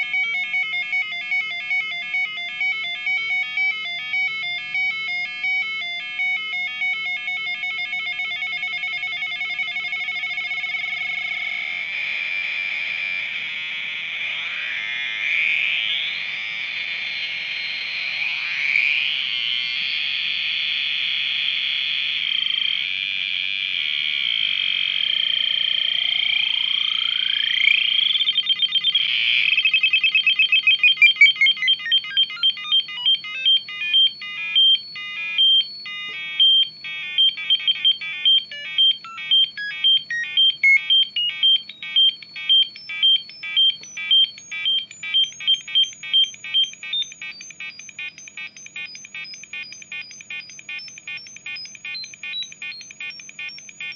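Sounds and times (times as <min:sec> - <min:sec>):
buzzy eight-bit tones: 0:00.0 - 0:19.9, 0:22.0 - 0:53.9.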